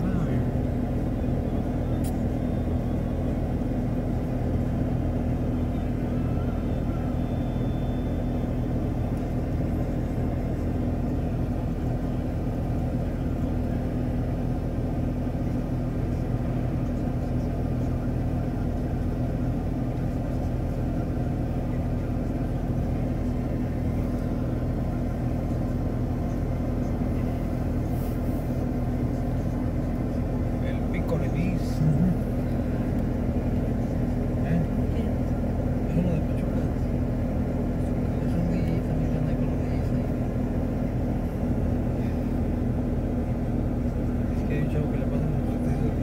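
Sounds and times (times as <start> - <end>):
low engine rumble: 0.0 - 46.0.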